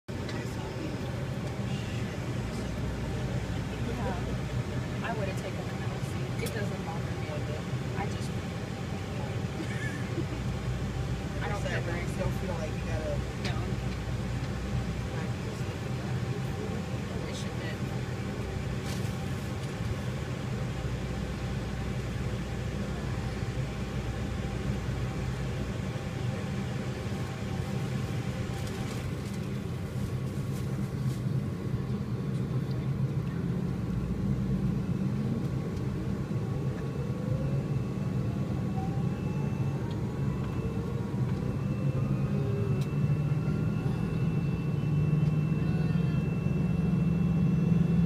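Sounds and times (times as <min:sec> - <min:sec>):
jet engine hum: 0:00.1 - 0:48.0
jet engine spooling whine: 0:00.1 - 0:48.0.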